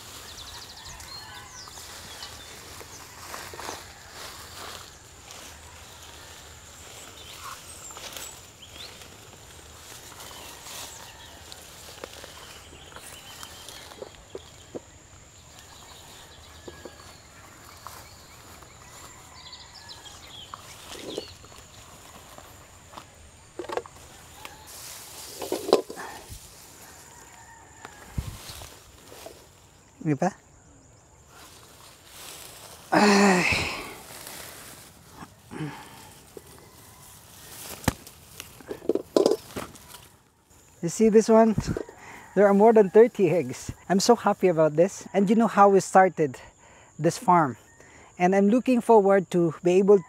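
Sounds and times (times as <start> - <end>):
footsteps through tall grass: 0.0 - 30.2, 31.2 - 44.8
birds chirping: 0.0 - 50.0.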